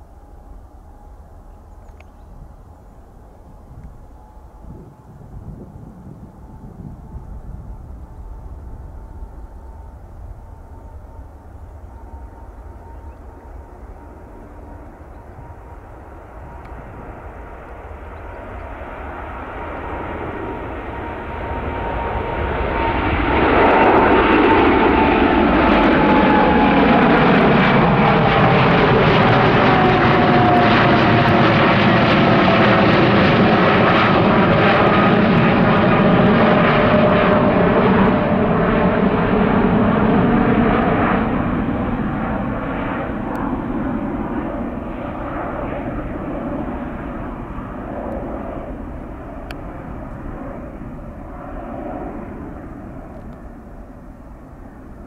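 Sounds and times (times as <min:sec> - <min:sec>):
jet airliner passing: 0:00.0 - 0:55.0.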